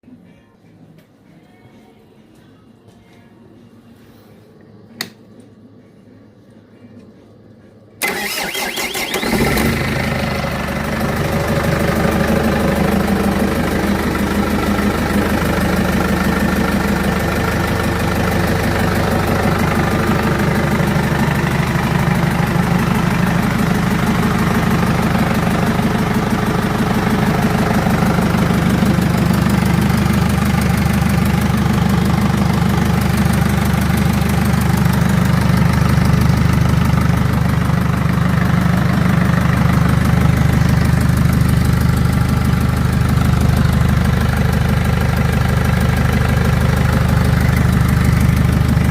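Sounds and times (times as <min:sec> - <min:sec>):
diesel engine idling: 0:08.0 - 0:48.9.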